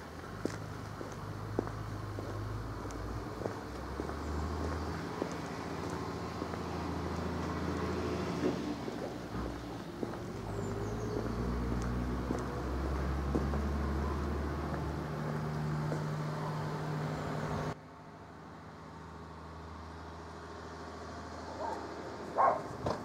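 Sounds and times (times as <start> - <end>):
outdoor background hum: 0.0 - 23.0
vehicle engine humming: 0.0 - 23.0.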